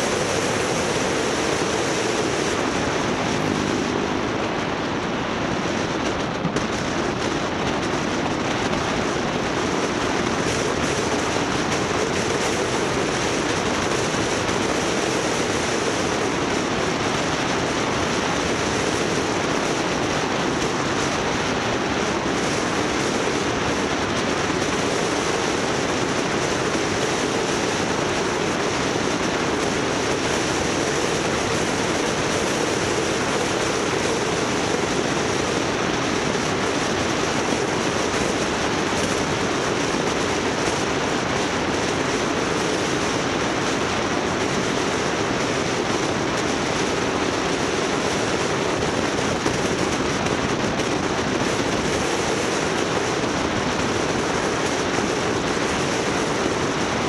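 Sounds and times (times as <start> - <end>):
engine hum: 0.0 - 56.9
tyre and wind rush: 0.0 - 57.0.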